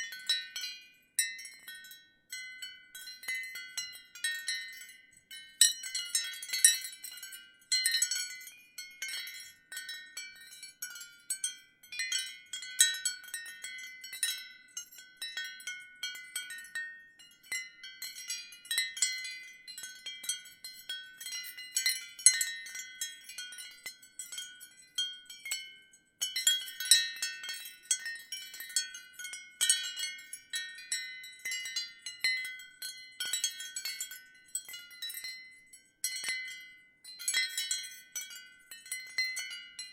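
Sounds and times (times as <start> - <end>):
ceramic wind chimes tinkling: 0.0 - 39.9.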